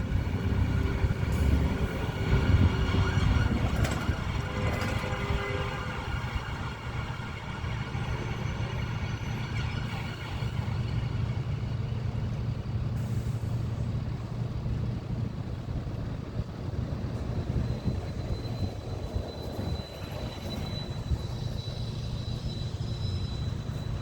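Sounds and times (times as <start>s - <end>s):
bus engine idling: 0.0s - 24.0s.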